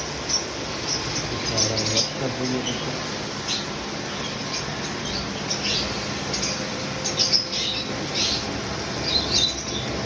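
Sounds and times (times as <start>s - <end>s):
lovebirds chirping: 0.1s - 10.0s.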